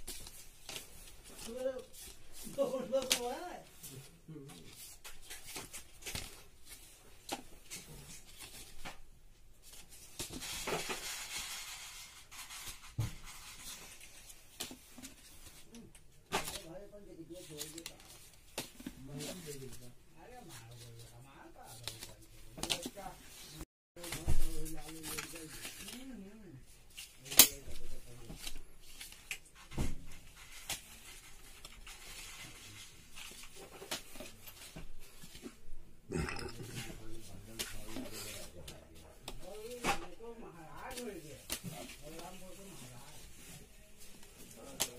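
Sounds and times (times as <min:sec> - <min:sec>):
paper envelopes rustling: 0:00.0 - 0:35.6, 0:36.9 - 0:44.9.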